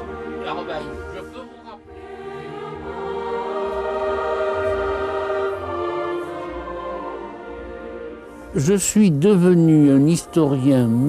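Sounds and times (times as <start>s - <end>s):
choir singing held notes: 0.0s - 11.0s.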